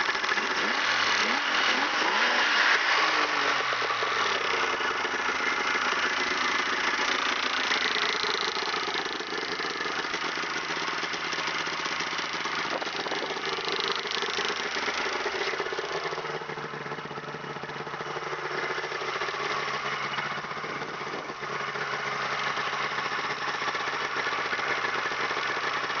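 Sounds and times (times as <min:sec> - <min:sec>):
snowmobile engine idling: 0:00.0 - 0:26.0.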